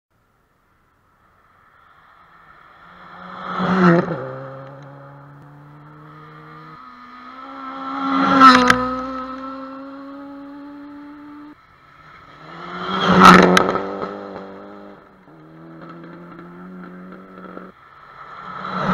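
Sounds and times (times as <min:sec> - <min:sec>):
rally car engine revving: 0:02.8 - 0:18.9.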